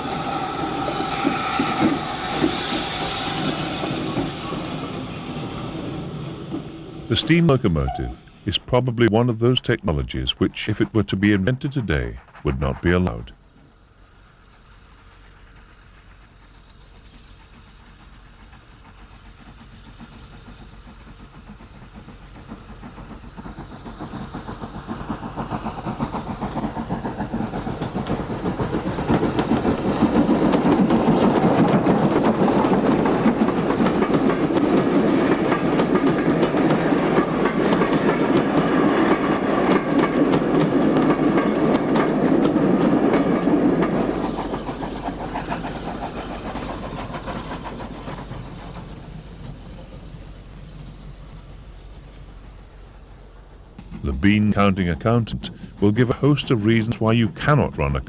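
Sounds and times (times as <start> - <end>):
steam locomotive passing: 0.0 - 58.0.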